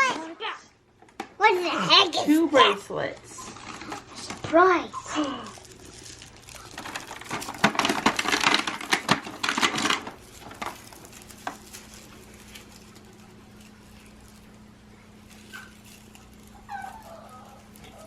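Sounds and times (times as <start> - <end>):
faint hum: 0.0 - 18.0
plastic packaging clatter and crinkle: 2.2 - 18.0.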